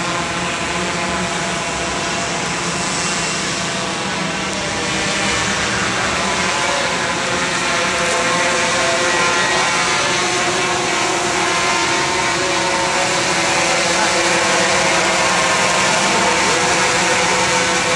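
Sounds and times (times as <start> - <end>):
drone motors and propellers whining: 0.0 - 17.9.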